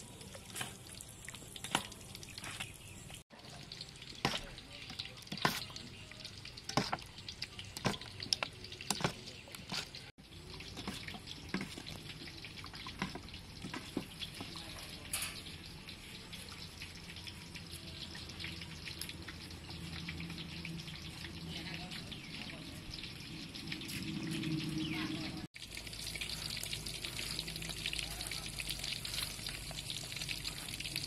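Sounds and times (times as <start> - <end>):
batter squelching: 0.0 - 15.0, 15.9 - 31.0
chicken deep-frying in oil: 0.0 - 31.0.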